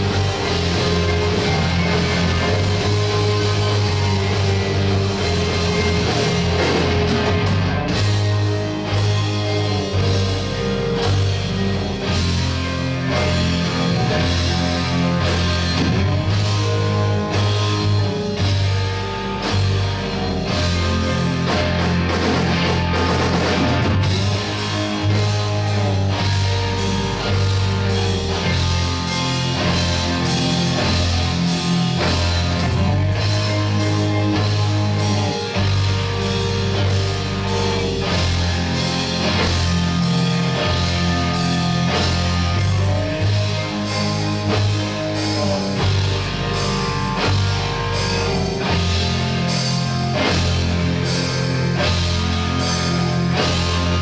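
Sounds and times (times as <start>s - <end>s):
drums keeping an even beat: 0.0s - 54.0s
rock band playing: 0.0s - 54.0s.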